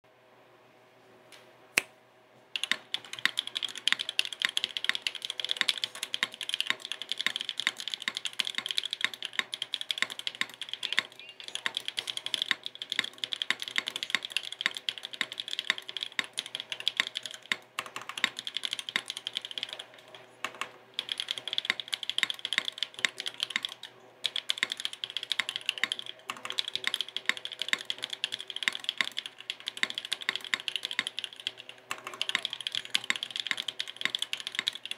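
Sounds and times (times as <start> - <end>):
mechanical keyboard typing: 2.6 - 34.9.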